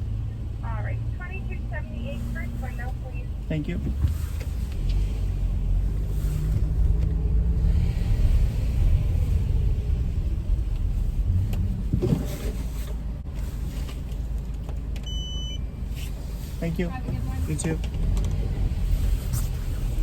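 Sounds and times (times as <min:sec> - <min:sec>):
car engine low rumble: 0:00.0 - 0:20.0.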